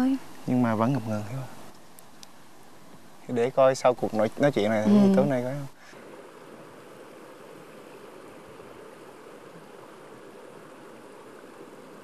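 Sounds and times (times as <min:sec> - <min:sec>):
faint stream water flowing: 0:00.0 - 0:12.0.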